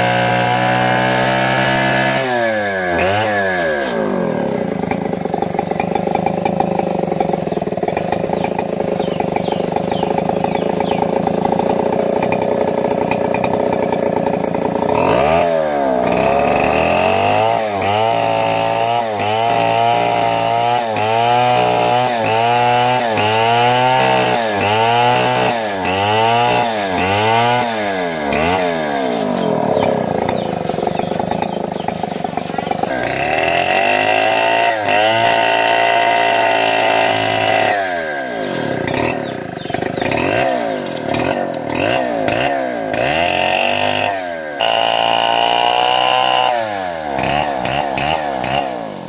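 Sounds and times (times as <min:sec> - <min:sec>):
chainsaw engine running: 0:00.0 - 0:49.0.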